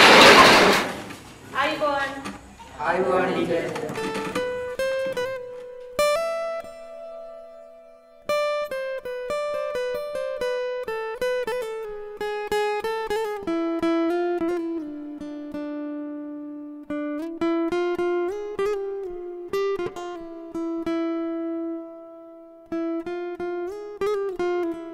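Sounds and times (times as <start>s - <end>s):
plucked string melody: 3.2s - 24.9s.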